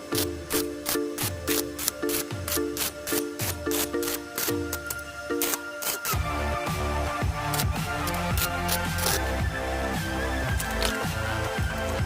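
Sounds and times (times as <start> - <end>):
repeating chord: 0.0 - 10.8.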